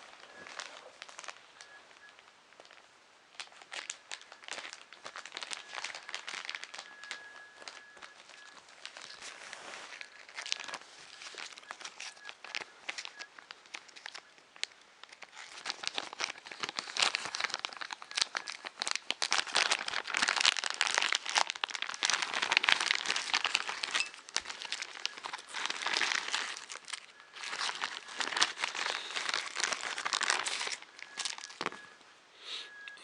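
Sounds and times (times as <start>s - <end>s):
packaging crinkling: 0.0s - 32.1s.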